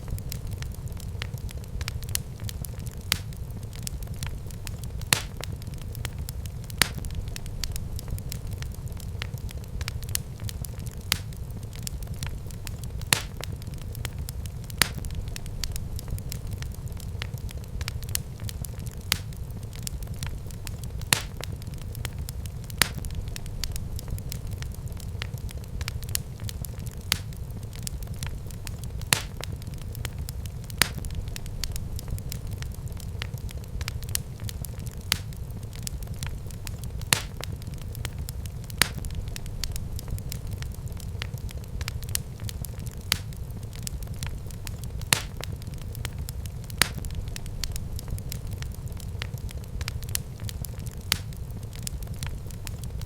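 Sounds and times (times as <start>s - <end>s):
sharp pops of fire: 0.0s - 53.0s
wood fire crackling: 0.0s - 53.0s.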